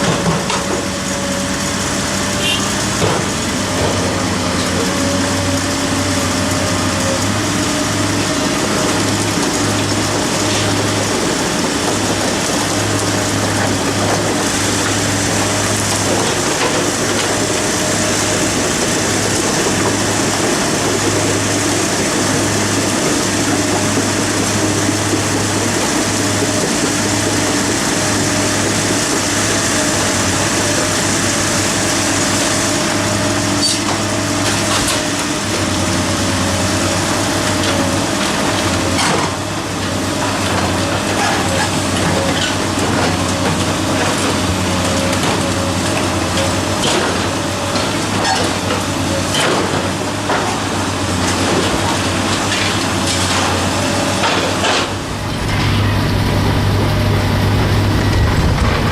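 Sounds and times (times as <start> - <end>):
heavy machine engine running: 0.0 - 58.9.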